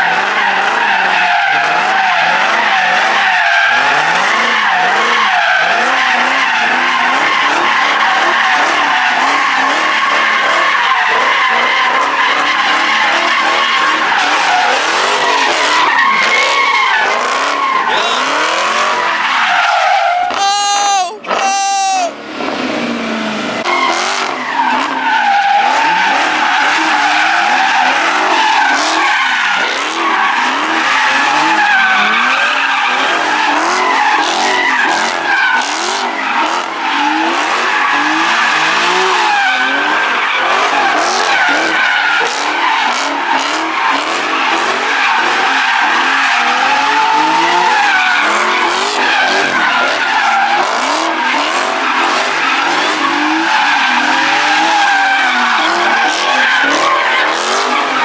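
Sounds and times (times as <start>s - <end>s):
car engines revving hard: 0.0s - 20.6s, 21.2s - 58.0s
car tires squealing: 0.0s - 58.0s.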